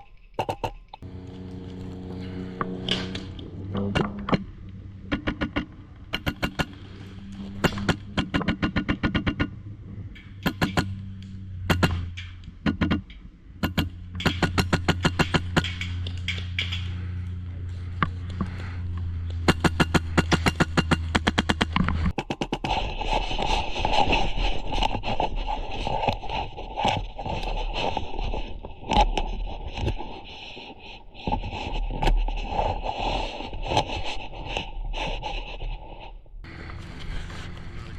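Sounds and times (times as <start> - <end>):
low drone: 0.9 - 37.9.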